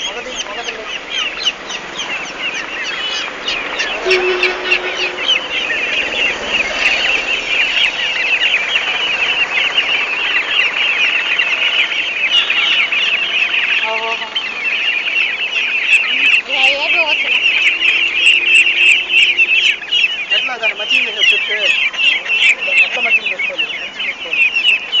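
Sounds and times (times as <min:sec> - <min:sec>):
chicks peeping: 0:00.0 - 0:25.0.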